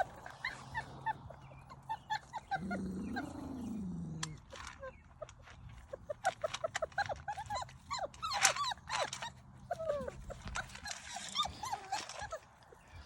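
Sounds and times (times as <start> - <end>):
puppies whining and yelping: 0.0 - 13.0.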